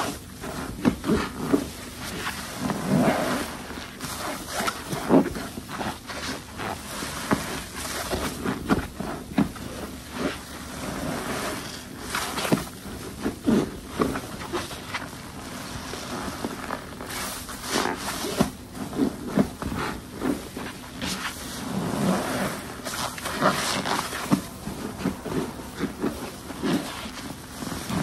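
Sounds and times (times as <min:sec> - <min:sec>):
soapy sponge squelching: 0:00.0 - 0:28.0.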